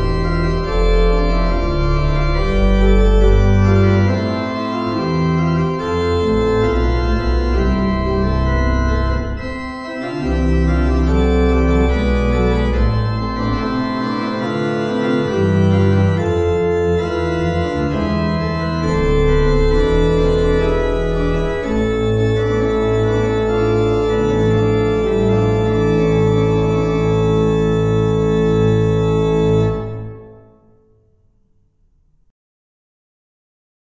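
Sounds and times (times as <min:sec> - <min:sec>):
church organ playing chords: 0:00.0 - 0:31.1.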